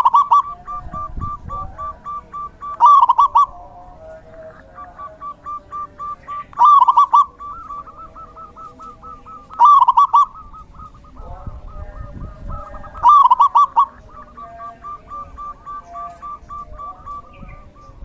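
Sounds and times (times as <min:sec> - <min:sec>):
dove cooing: 0:00.0 - 0:18.0
softer repeated coo notes: 0:00.0 - 0:18.0.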